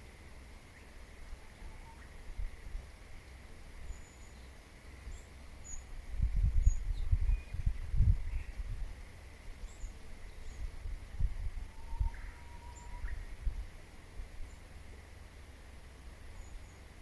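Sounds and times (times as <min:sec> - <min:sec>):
birds chirping faintly: 0:00.0 - 0:10.9, 0:11.6 - 0:17.0.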